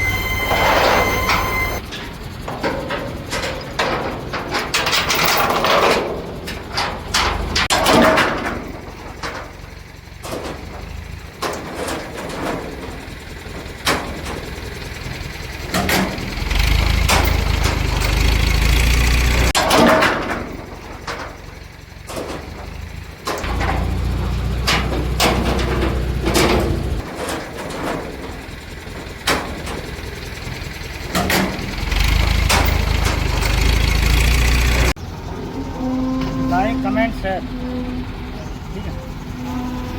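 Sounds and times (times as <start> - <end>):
metallic clanks and knocks: 0.0 - 39.3
diesel engine rumble: 0.0 - 39.9.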